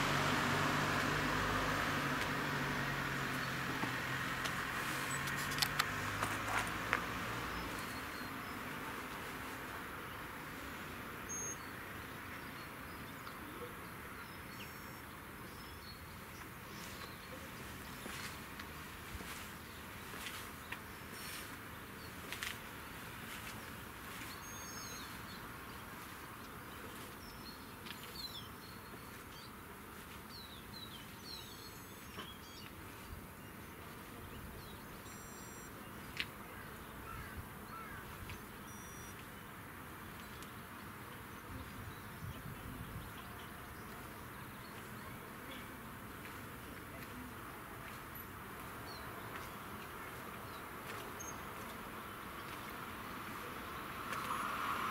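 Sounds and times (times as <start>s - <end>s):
faint background noise: 0.0s - 54.9s
small birds chirping: 0.9s - 10.4s, 11.2s - 54.9s.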